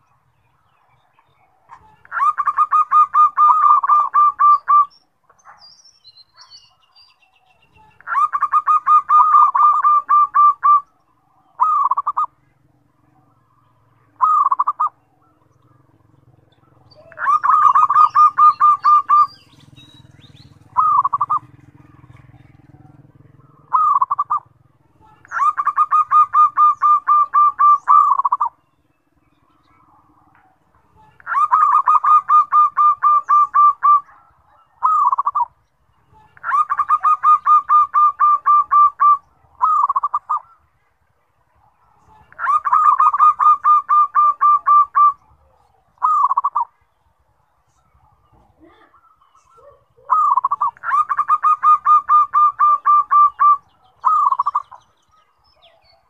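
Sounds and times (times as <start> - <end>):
dove cooing: 0.0 - 5.6, 7.8 - 40.7, 41.6 - 46.9, 47.7 - 56.0.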